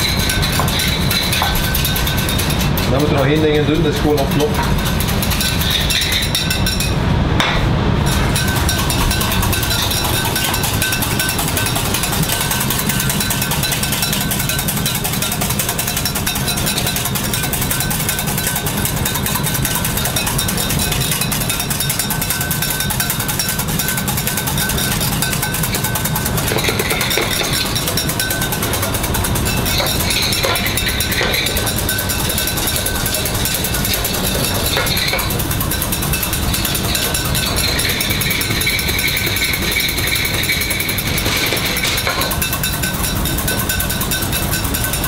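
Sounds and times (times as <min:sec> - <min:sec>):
whisk beating in metal saucepan: 0:00.0 - 0:07.0, 0:08.0 - 0:45.0
steady low hum: 0:00.0 - 0:45.0.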